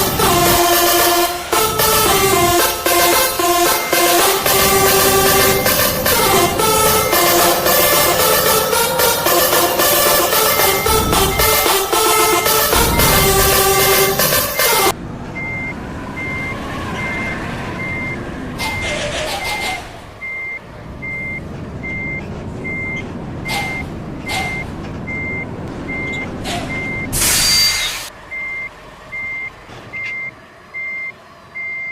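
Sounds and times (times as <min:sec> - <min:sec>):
reversing alarm beeping: 0:00.0 - 0:18.8, 0:20.2 - 0:31.9
bus engine rumble: 0:00.0 - 0:31.9.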